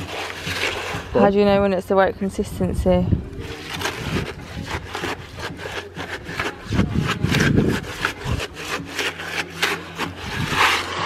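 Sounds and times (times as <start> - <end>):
stick scraping concrete mix: 0.0 - 11.0.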